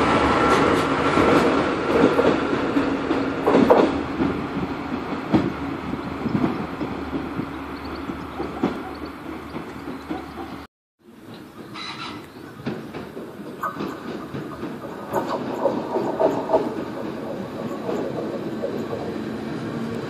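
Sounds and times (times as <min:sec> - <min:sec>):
train running on rails: 0:00.0 - 0:20.0
wheel clacks over rail joints: 0:00.4 - 0:20.0.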